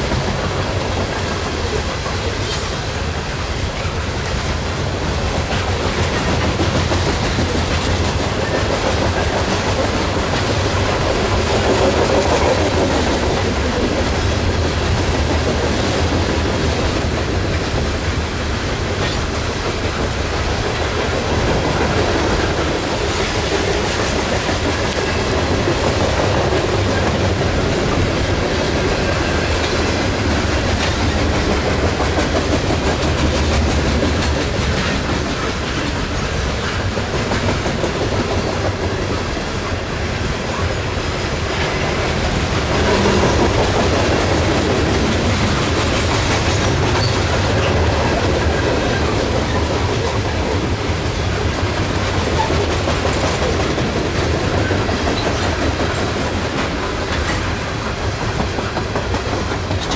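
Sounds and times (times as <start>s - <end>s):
freight train rumble: 0.0s - 59.9s
steel wheels clattering on rails: 0.0s - 59.9s.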